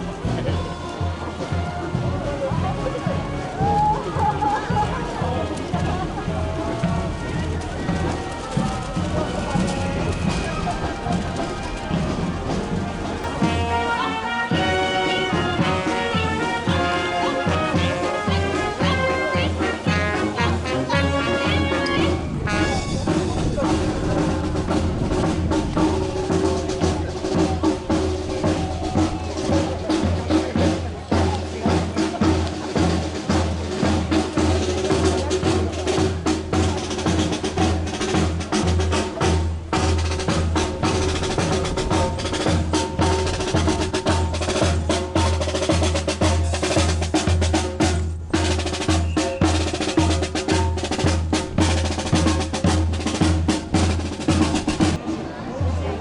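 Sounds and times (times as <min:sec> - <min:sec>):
bass drum and snare drum beat: 0:00.0 - 0:55.8
marching band playing: 0:00.0 - 0:56.0.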